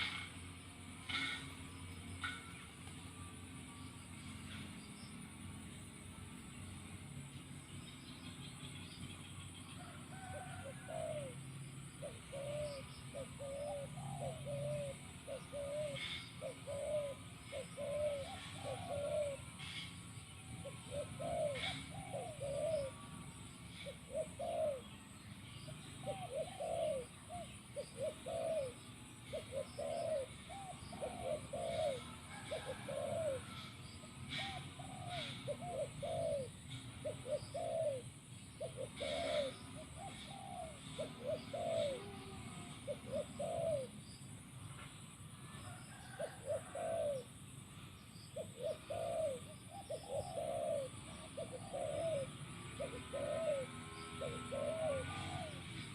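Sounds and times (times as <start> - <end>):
dove cooing: 0.0 - 6.4, 9.8 - 25.1, 25.7 - 55.9.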